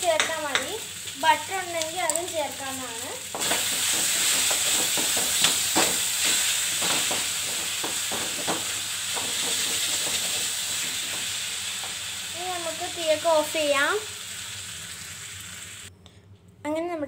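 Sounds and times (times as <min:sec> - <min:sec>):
noodles sizzling in a wok: 0:00.0 - 0:15.9.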